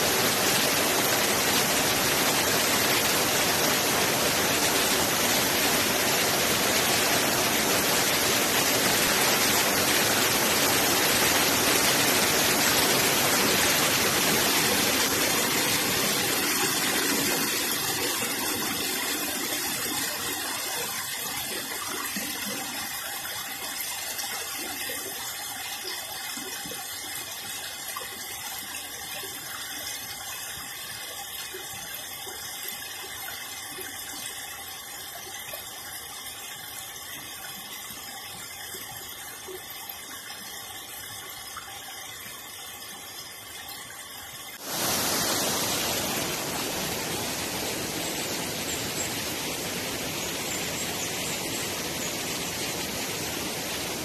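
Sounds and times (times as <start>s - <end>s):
stream water cascading over rock: 0.0s - 54.0s.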